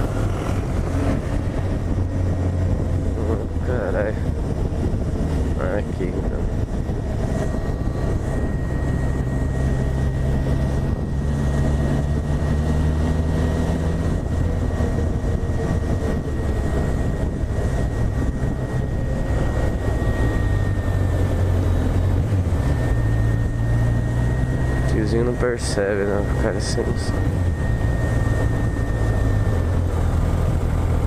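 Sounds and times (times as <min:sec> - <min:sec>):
motorcycle engine running: 0:00.0 - 0:31.0
road and wind noise: 0:00.0 - 0:31.0.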